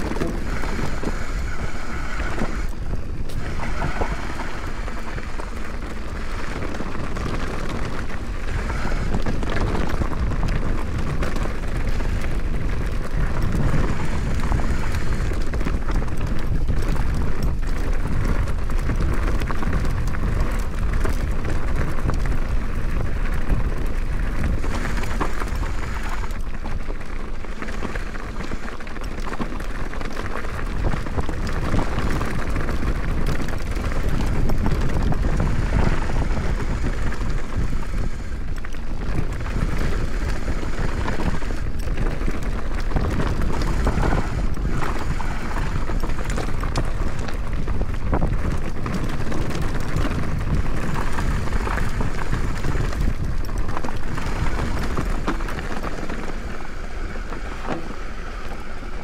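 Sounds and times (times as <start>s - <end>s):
mountain bike rumble and rattle: 0.0s - 59.0s
wind buffeting microphone: 0.0s - 59.0s.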